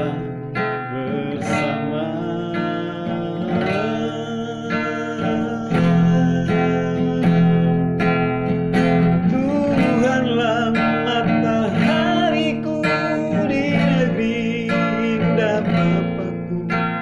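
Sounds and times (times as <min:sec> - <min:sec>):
acoustic guitar strumming: 0:00.0 - 0:17.0
man singing: 0:00.0 - 0:17.0.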